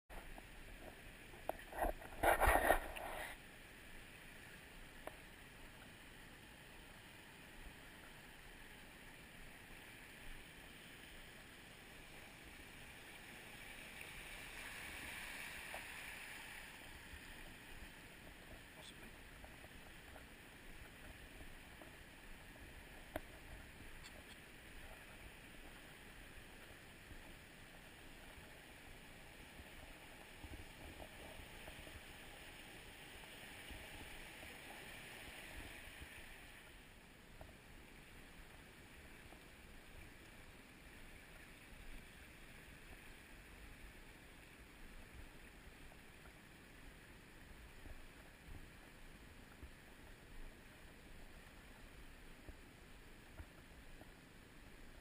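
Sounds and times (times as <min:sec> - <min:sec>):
faint river rushing: 0:00.1 - 0:55.0.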